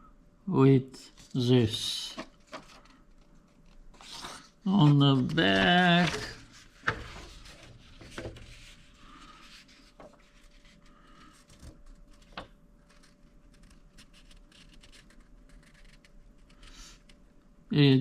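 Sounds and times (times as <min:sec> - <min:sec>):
paper rubbing: 0:02.5 - 0:17.2.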